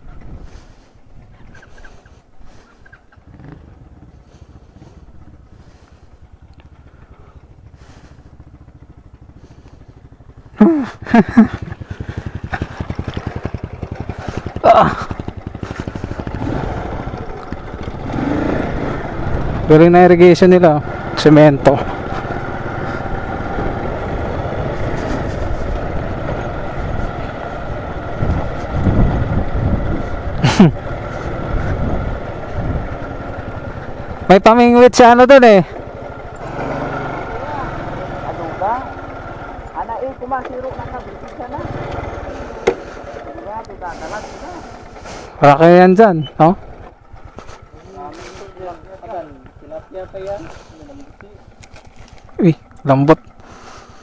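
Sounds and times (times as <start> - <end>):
motorcycle engine idling: 0.0 - 54.0
motorcycle engine revving: 0.2 - 54.0.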